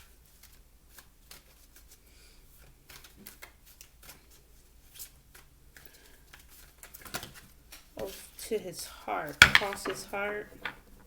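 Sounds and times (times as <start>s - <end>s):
cards shuffling: 0.3s - 2.0s, 2.6s - 8.4s, 9.2s - 10.9s.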